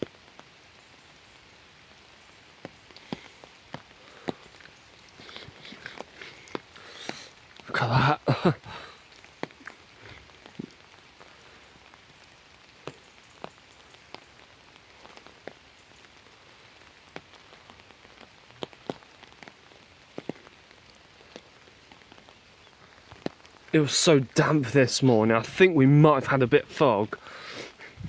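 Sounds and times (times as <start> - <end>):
rain hissing: 0.0 - 28.0
raindrops tapping: 0.0 - 28.0.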